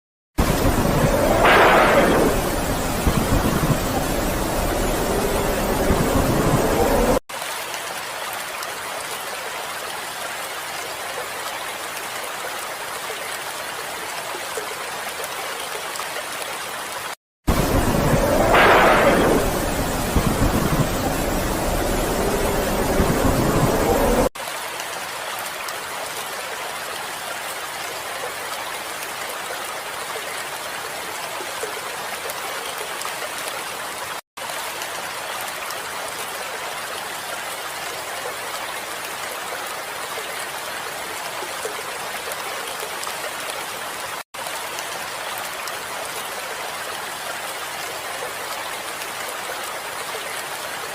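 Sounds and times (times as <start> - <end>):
steady rain: 0.4 - 50.9.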